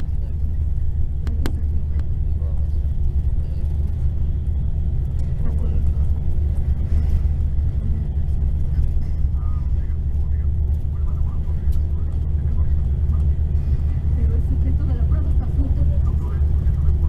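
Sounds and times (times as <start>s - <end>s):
diesel coach engine droning: 0.0s - 17.0s
faint voices: 0.0s - 17.0s
road rumble of moving bus: 0.0s - 17.0s.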